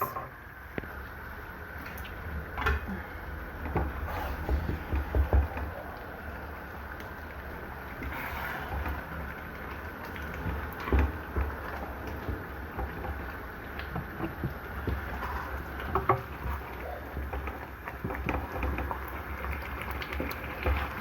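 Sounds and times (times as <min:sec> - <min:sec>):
stew sizzling and bubbling: 0:00.0 - 0:21.0.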